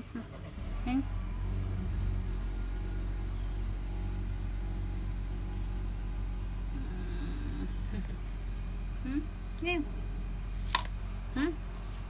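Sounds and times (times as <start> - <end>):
cat purring: 0.4 - 10.4.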